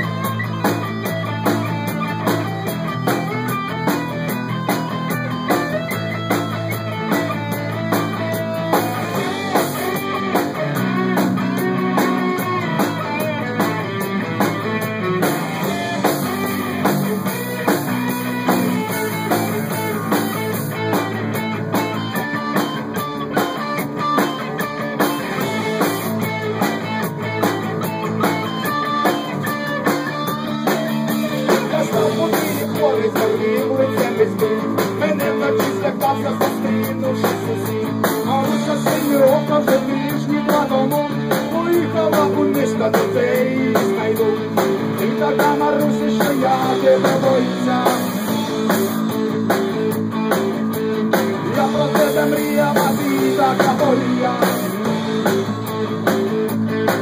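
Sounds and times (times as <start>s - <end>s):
bass guitar: 0.0s - 57.0s
drums: 0.0s - 57.0s
electric guitar lead: 0.0s - 57.0s.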